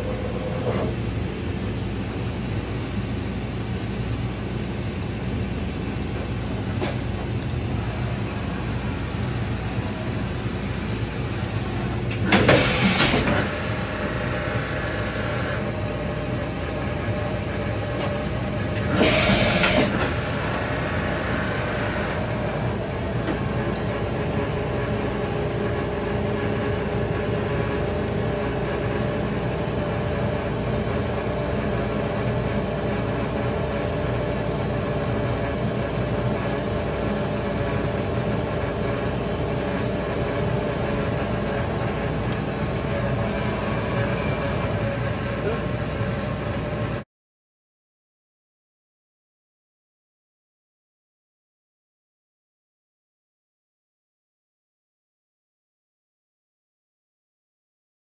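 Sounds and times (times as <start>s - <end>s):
machine mechanical hum: 0.0s - 47.0s.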